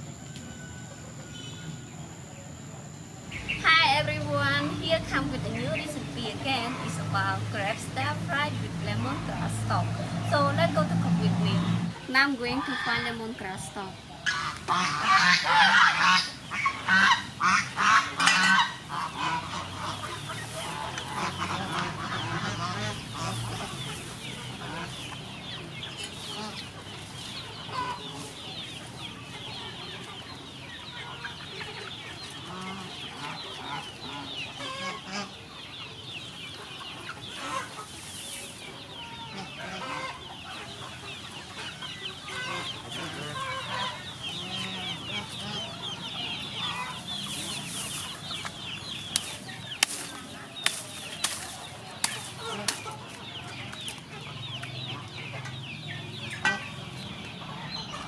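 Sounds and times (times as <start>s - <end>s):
poultry chirping and clucking: 0.0s - 58.0s.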